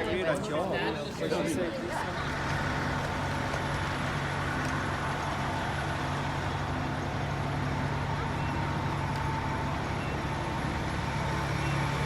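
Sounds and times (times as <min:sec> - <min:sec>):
vehicle engine humming: 0:02.0 - 0:12.0.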